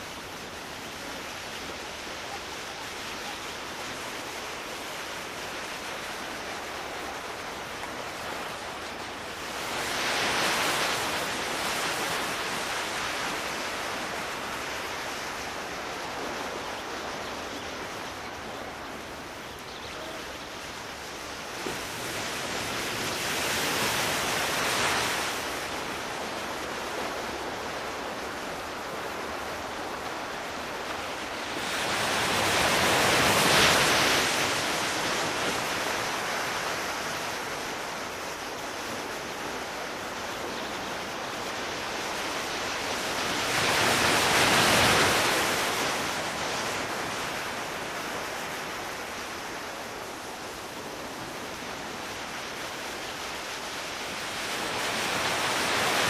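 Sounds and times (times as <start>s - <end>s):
sea waves washing: 0.0s - 56.0s.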